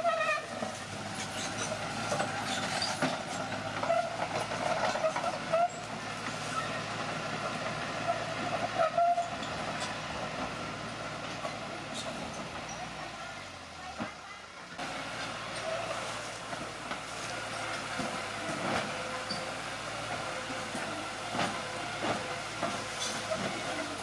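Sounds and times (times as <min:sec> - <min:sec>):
crawler tracks squealing and clanking: 0:00.0 - 0:13.2, 0:14.8 - 0:24.0
engine hum: 0:00.0 - 0:24.0.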